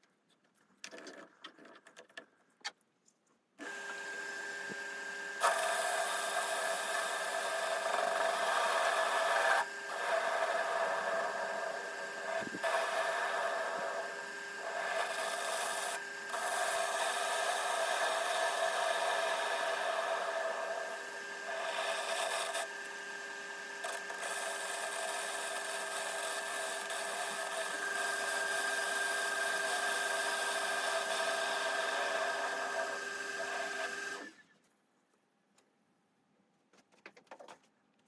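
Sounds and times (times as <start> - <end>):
cutter rasping through metal: 3.6 - 34.4.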